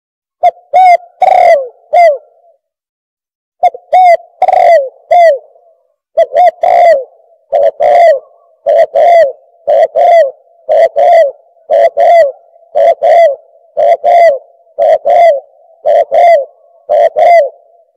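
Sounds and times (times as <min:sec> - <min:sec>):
dove cooing: 0:00.4 - 0:02.6, 0:03.6 - 0:17.9.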